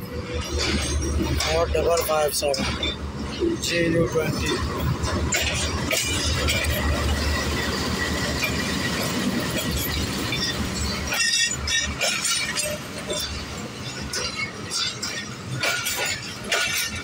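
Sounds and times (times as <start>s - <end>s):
diesel locomotive engine rumble: 0.0s - 17.0s
high wheel squeal: 0.0s - 17.0s
wheels clattering over rail joints: 0.0s - 17.0s.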